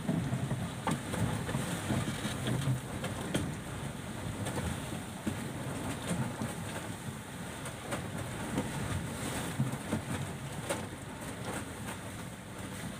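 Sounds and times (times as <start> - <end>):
rough sea: 0.0 - 12.9.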